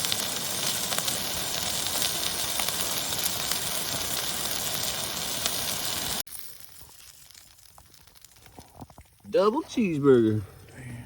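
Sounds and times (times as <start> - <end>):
burgers sizzling over campfire: 0.0 - 10.9.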